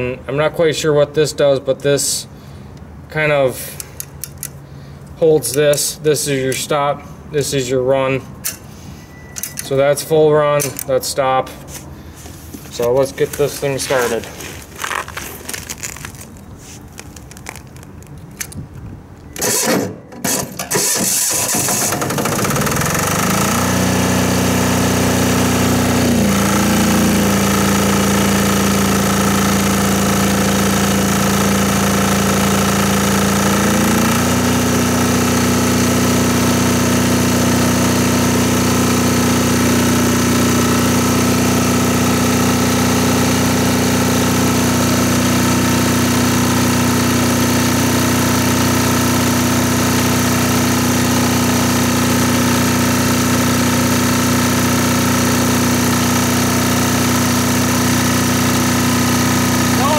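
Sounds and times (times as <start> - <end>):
diesel generator engine running: 0.0 - 59.9.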